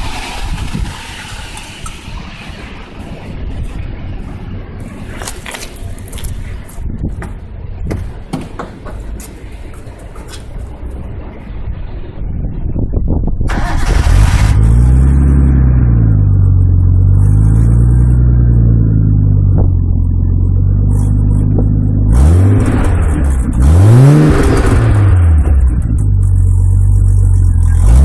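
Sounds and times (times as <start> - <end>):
car exhaust idling and revving: 0.0 - 28.0.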